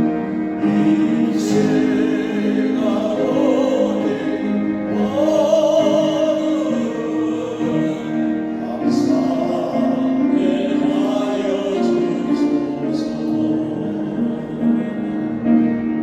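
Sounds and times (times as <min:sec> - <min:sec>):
voices singing praise song: 0:00.0 - 0:15.4
instrumental accompaniment: 0:00.0 - 0:16.0.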